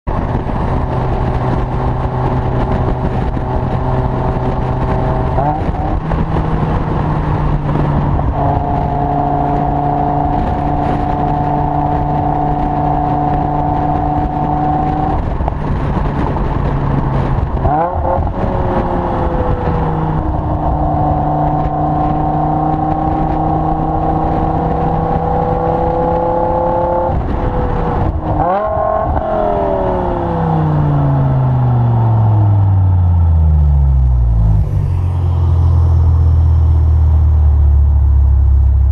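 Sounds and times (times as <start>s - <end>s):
car engine exhaust roaring: 0.1s - 38.9s.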